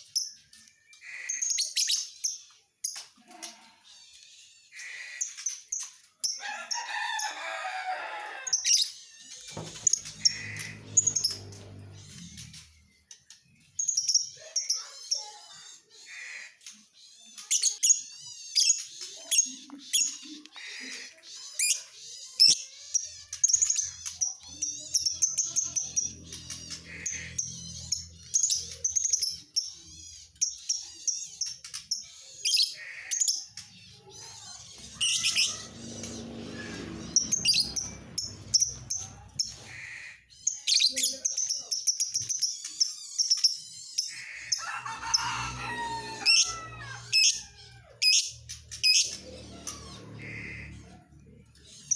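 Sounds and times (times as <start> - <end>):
bird chirping and trilling: 0.0 - 51.9.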